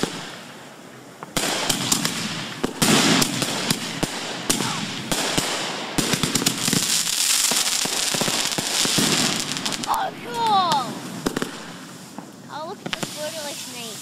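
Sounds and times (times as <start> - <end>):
fireworks bangs: 0.0 - 14.0
fireworks crackling: 0.0 - 14.0
hiss of burning: 0.0 - 14.0.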